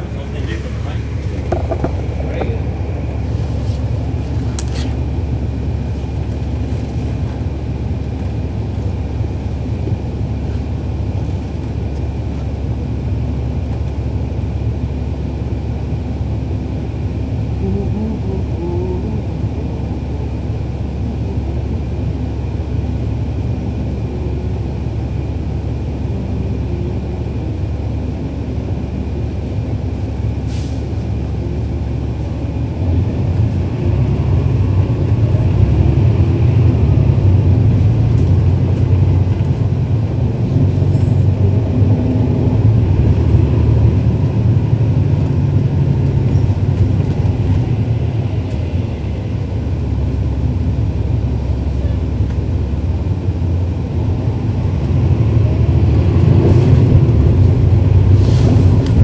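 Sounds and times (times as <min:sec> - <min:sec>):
diesel engine rumble: 0:00.0 - 0:59.0.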